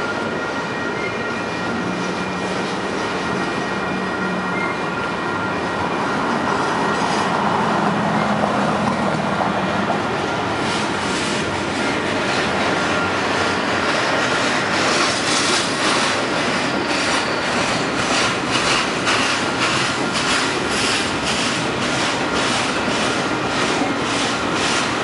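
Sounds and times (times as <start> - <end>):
steel wheels rumbling on rail: 0.0 - 25.0.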